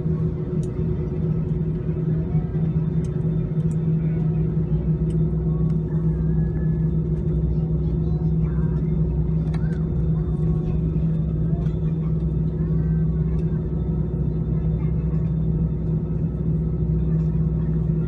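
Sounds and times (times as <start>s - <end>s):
jet engines humming: 0.0s - 18.0s
low rumble of airliner taxiing: 0.0s - 18.0s.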